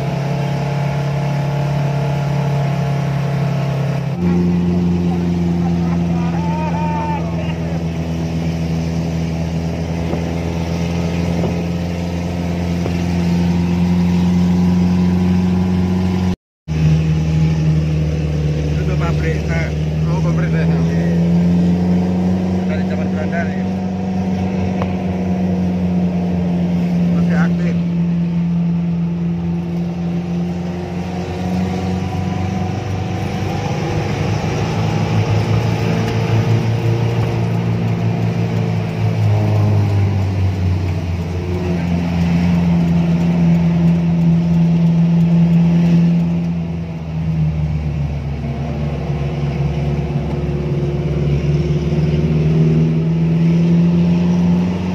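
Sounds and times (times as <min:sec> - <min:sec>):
jeep engine running while driving: 0:00.0 - 0:54.9.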